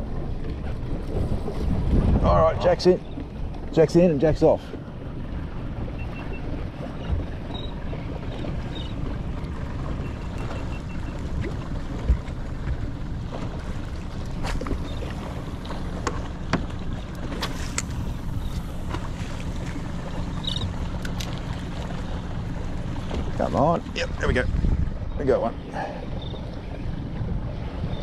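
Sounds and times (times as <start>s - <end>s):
water on a boat: 0.0s - 28.0s
wind: 0.0s - 28.0s.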